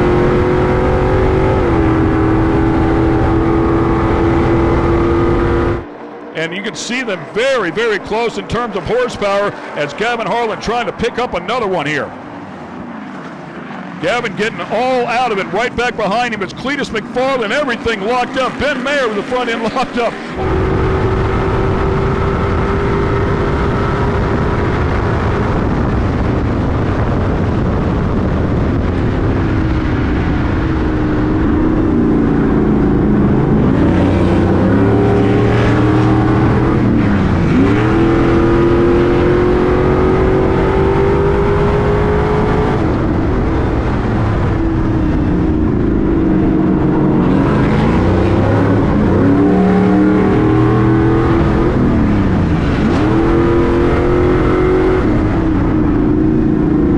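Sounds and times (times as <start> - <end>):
truck engine revving: 0.0 - 12.2, 12.8 - 56.9.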